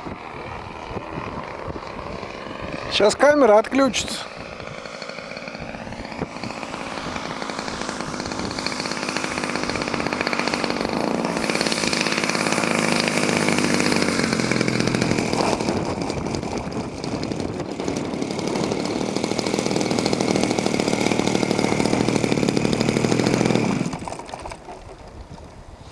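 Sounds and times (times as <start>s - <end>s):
small motor running: 0.0s - 25.8s.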